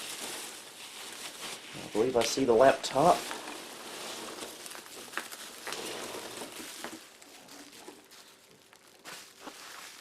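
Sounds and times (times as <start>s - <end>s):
packing peanuts rustling: 0.0s - 10.0s.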